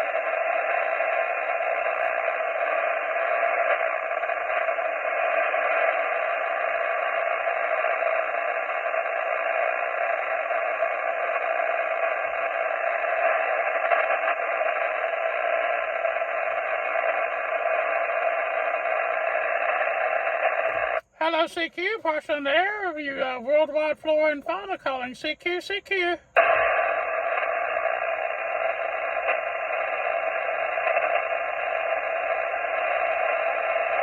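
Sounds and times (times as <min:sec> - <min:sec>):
radio receiver hiss: 0:00.0 - 0:34.0.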